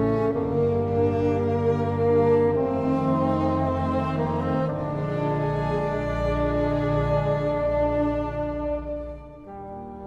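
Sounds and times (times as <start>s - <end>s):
bassoon: 0.0s - 10.0s
small orchestra playing: 0.0s - 10.0s.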